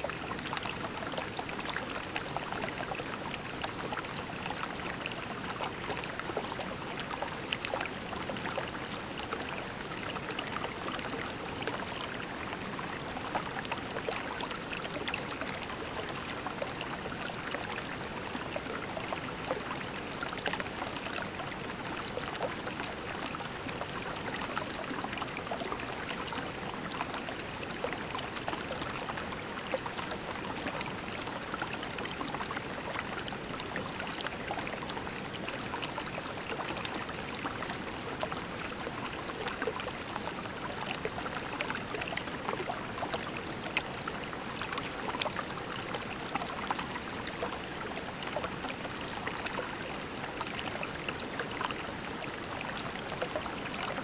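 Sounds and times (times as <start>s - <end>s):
creek water babbling over pebbles: 0.0s - 54.0s.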